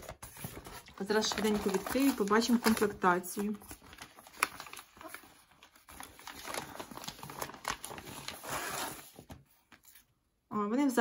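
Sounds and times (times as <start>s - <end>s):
packaging rustling and crinkling: 0.0s - 10.1s.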